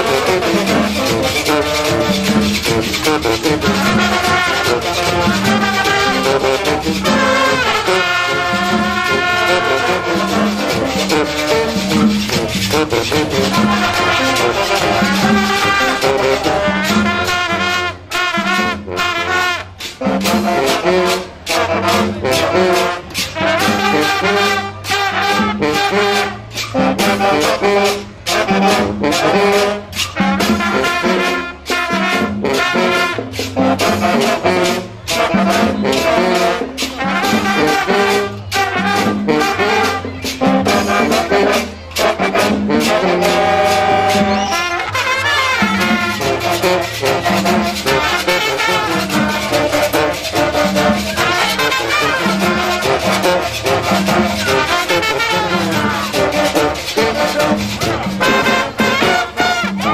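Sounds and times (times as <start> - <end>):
marching band brass: 0.0 - 59.9
marching drums: 0.0 - 59.9.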